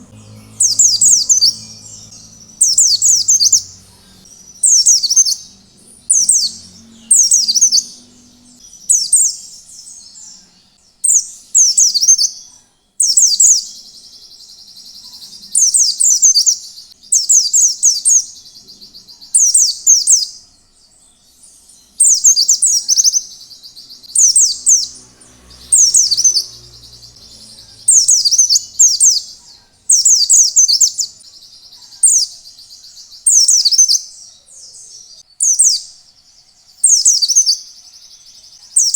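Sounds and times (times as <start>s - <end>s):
bird twittering: 0.0s - 20.4s, 21.6s - 38.9s
soft continuous bird trill: 0.0s - 38.9s.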